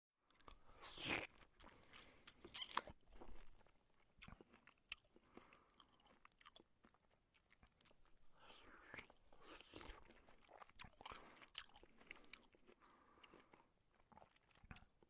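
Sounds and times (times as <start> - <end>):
person chewing noodles: 0.2 - 15.0.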